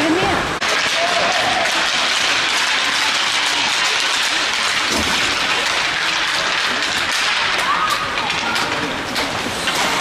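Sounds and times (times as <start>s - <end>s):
spectators applauding: 0.6s - 8.7s.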